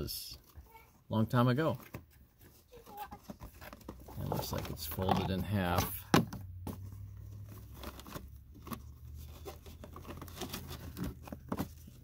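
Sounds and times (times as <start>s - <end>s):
air filter rustling and crinkling: 0.0s - 12.0s.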